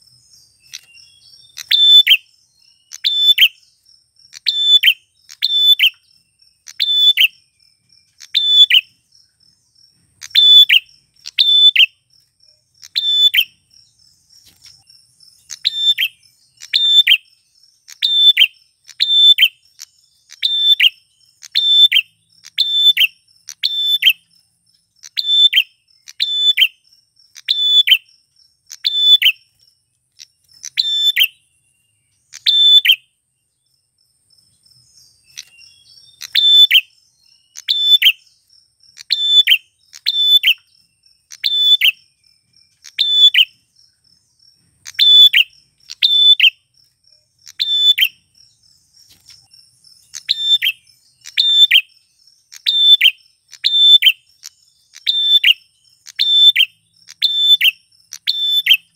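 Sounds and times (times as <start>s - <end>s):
bird chirping sharply: 0.0s - 9.0s, 10.0s - 12.1s, 12.7s - 14.8s, 15.4s - 24.3s, 25.0s - 28.1s, 28.7s - 33.2s, 34.8s - 43.6s, 44.7s - 46.6s, 47.4s - 48.4s, 50.0s - 58.9s
insect trill: 0.0s - 58.9s.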